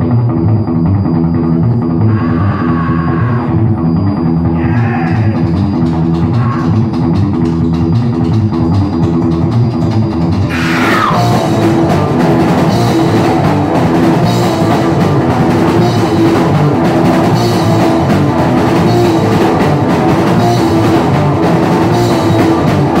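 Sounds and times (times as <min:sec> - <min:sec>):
distorted electric guitar: 0:00.0 - 0:23.0
pounding drum kit and cymbals: 0:00.0 - 0:23.0
punk rock band playing: 0:00.0 - 0:23.0.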